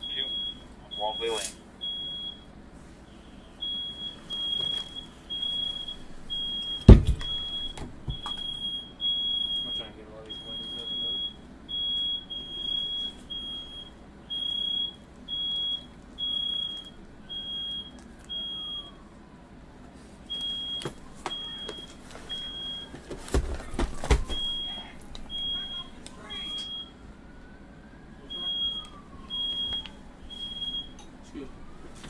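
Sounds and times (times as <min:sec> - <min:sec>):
smoke alarm beeping: 0:00.0 - 0:19.0, 0:20.3 - 0:27.0, 0:28.2 - 0:31.9.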